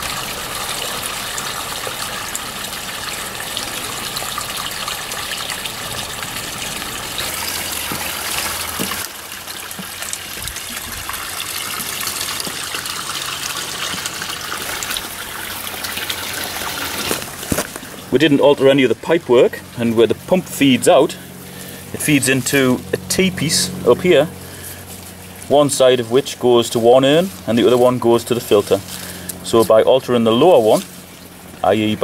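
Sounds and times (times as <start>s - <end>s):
water splashing into pond: 0.0s - 32.0s.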